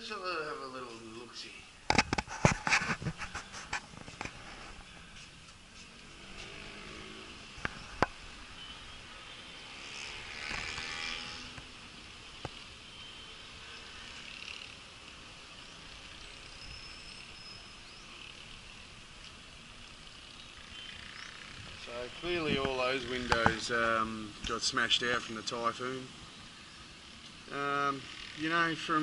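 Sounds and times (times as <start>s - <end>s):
distant traffic hiss: 0.0s - 29.0s.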